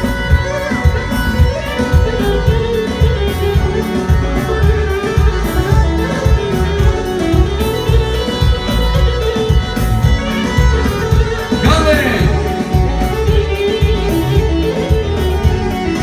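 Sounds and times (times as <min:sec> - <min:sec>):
band playing folk melody: 0:00.0 - 0:16.0
heavy drum beat: 0:00.0 - 0:16.0.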